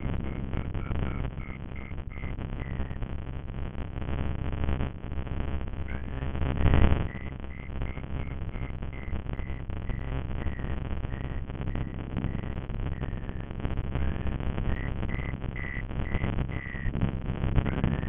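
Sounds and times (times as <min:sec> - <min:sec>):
distorted rumbling microphone audio: 0:00.0 - 0:18.0.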